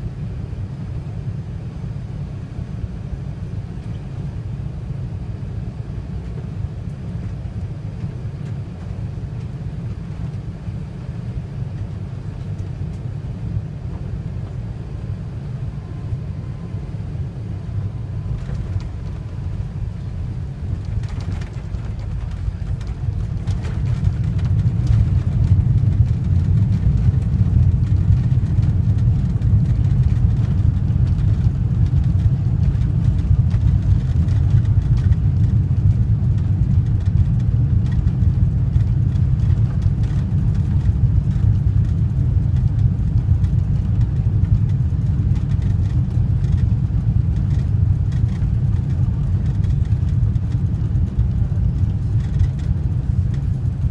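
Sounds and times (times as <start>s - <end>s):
airplane landing rumble: 0.0s - 53.9s.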